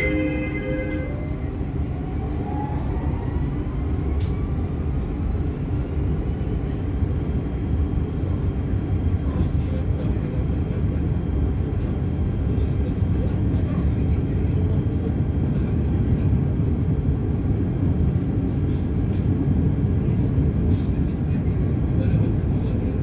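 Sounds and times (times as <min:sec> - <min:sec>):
rising train whine: 0:00.0 - 0:23.0
train rumble: 0:00.0 - 0:23.0.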